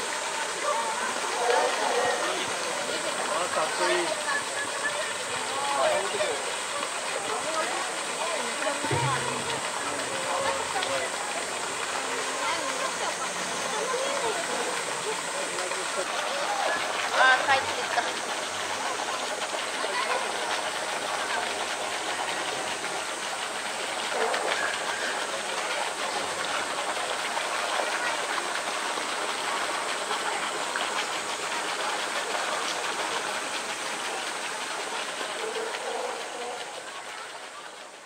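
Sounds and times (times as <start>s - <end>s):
water pouring into pool: 0.0s - 38.0s.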